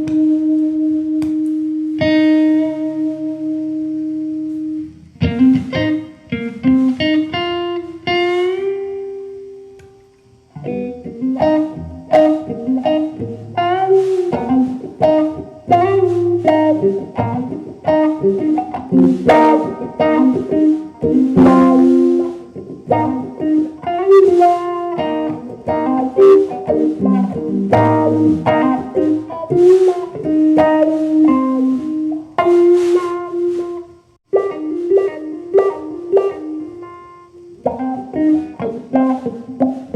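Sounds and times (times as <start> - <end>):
solo guitar playing: 0.0 - 39.9.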